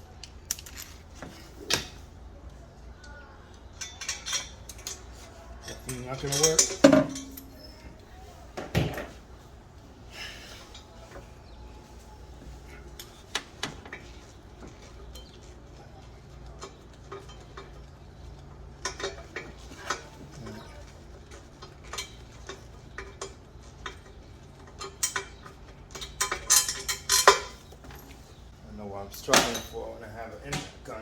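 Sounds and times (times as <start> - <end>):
hand tools and metal clinking: 0.0 - 31.0.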